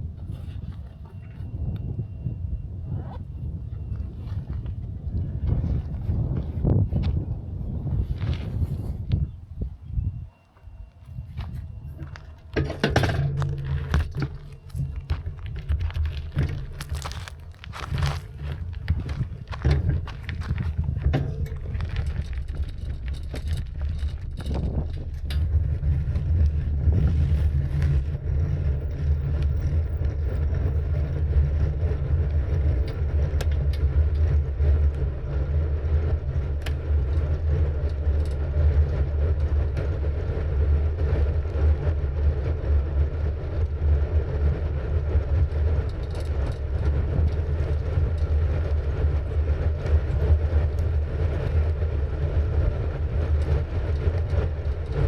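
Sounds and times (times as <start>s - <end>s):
road noise: 0.0s - 55.0s
wind rumble on microphone: 0.0s - 55.0s.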